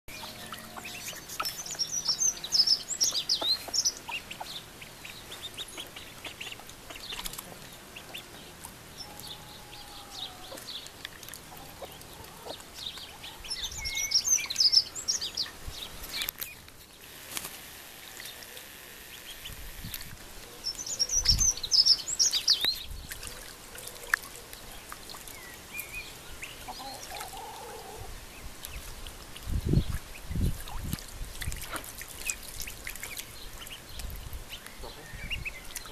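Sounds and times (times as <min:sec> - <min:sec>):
ducklings peeping: 0:00.1 - 0:17.5, 0:18.1 - 0:35.9.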